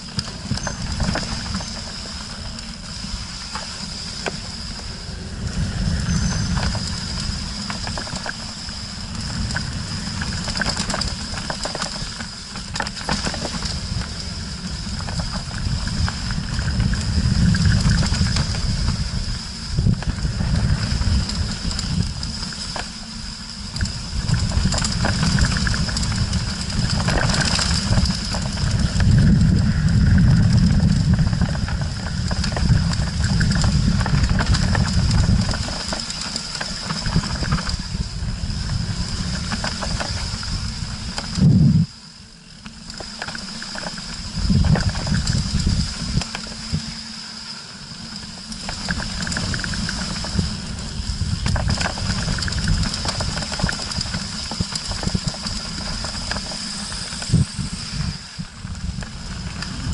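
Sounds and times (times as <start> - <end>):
tyres rumbling over dirt and stones: 0.0 - 41.9, 42.6 - 59.9
bike rattling: 0.0 - 59.9
wind buffeting microphone: 4.0 - 22.8, 23.5 - 42.0, 44.0 - 47.1, 48.1 - 59.9.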